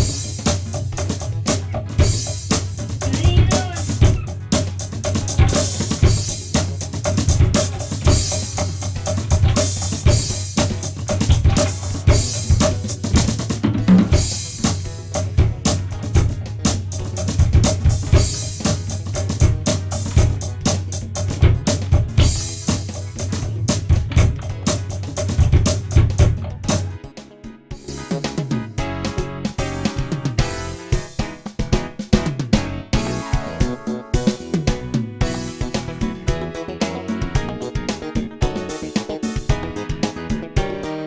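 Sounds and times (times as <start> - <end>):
drum kit kick and snare: 0.0 - 40.9.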